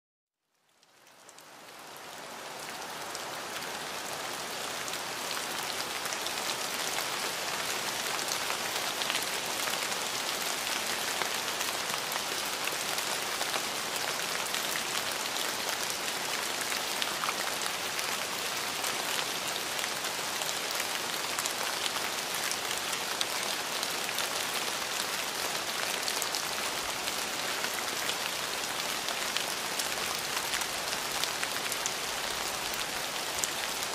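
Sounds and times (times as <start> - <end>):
steady rain with dripping drops: 0.4 - 33.9.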